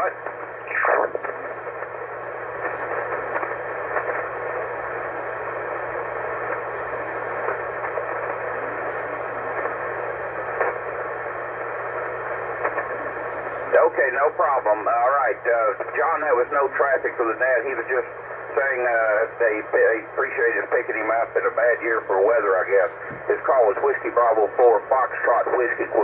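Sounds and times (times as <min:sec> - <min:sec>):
low steady hum: 0:00.0 - 0:26.0
radio static hiss: 0:00.0 - 0:26.0.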